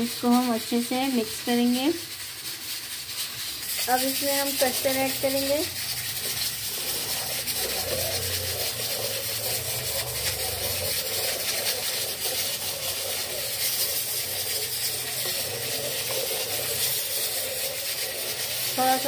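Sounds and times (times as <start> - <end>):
ladle stirring in steel pot: 0.0 - 19.0.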